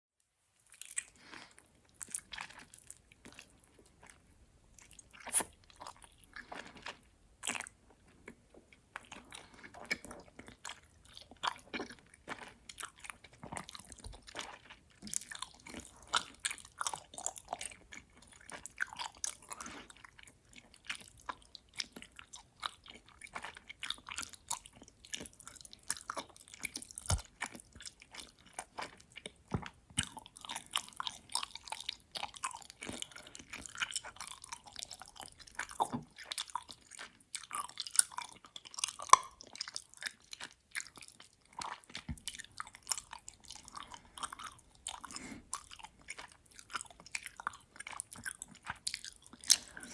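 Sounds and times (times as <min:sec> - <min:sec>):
chewing gummy candy: 0:00.6 - 0:49.9.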